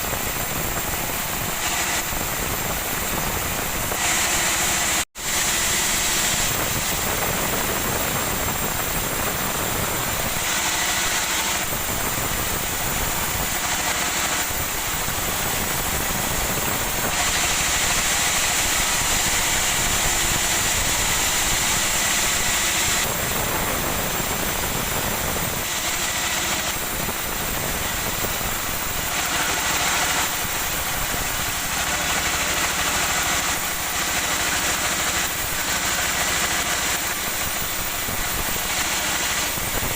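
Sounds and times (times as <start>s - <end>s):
high hissing whine of cutting: 0.0s - 39.9s
woodworking machinery running: 0.0s - 39.9s.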